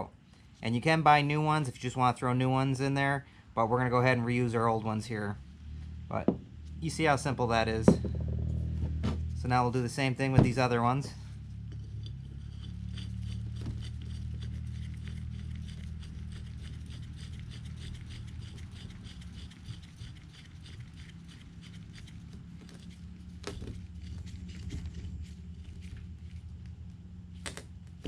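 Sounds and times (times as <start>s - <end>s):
low hum: 1.6s - 28.0s.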